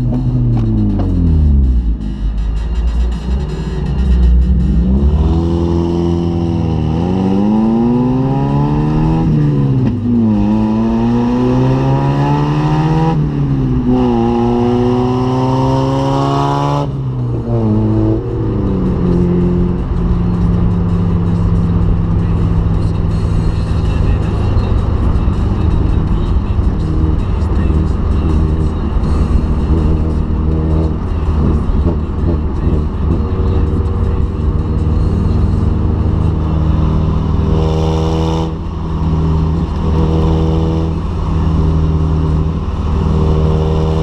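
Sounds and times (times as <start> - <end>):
car engine accelerating with upshifts: 0.0 - 44.0
engine droning low: 0.0 - 44.0.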